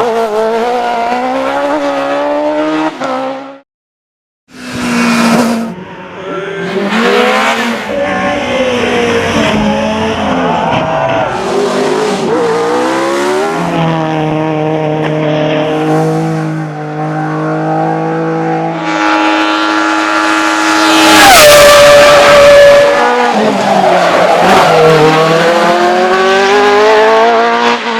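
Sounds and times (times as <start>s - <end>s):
race car engine revving: 4.6s - 27.9s.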